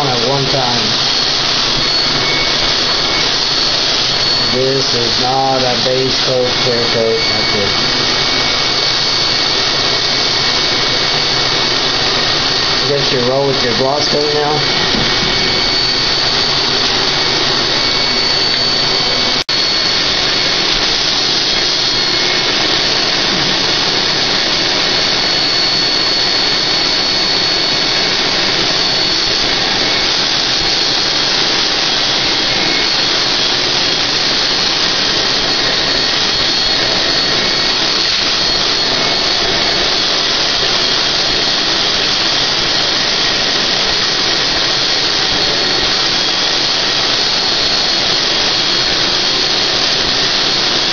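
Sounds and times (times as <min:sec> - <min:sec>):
spray rig air rush and whine: 0:00.0 - 0:50.9.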